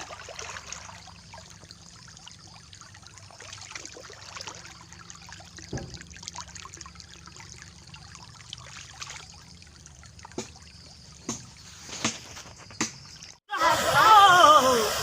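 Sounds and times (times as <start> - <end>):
floodwater running and trickling: 0.0 - 15.0.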